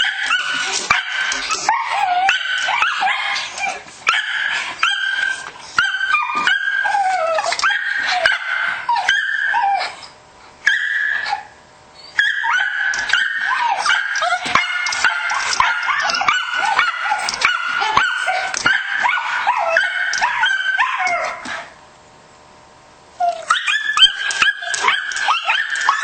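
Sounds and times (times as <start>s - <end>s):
dog howling and yipping: 0.0s - 21.8s, 23.2s - 26.0s.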